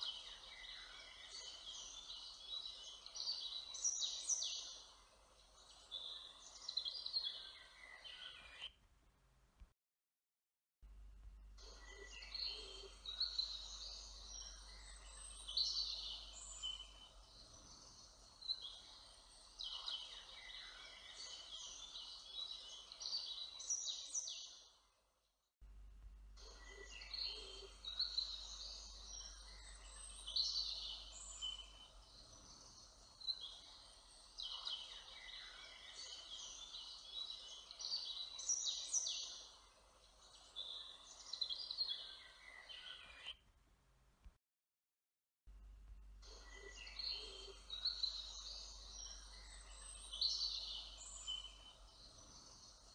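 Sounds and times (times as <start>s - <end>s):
songbirds singing: 0.0s - 8.8s, 11.6s - 24.8s, 26.4s - 43.4s, 46.2s - 52.9s.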